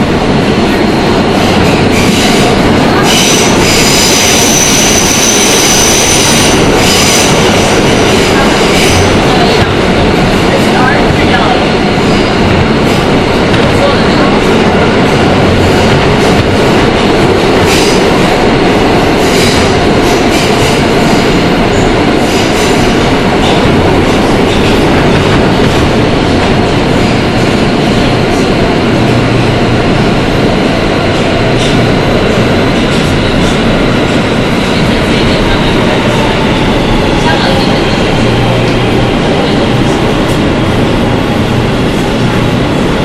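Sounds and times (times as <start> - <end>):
subway wheels rumbling on rail: 0.0 - 43.0.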